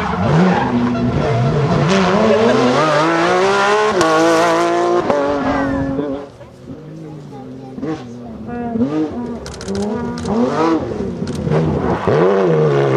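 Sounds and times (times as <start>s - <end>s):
car engine revving: 0.0s - 12.9s
tyres skidding: 0.0s - 12.9s.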